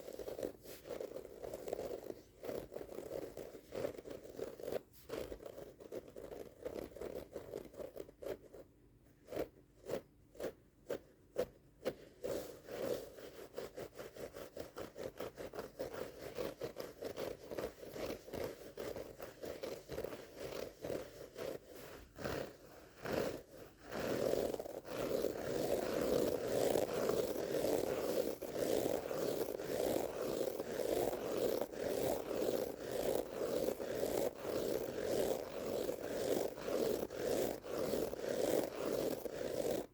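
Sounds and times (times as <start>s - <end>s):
rug being scratched and rubbed: 0.0s - 39.9s.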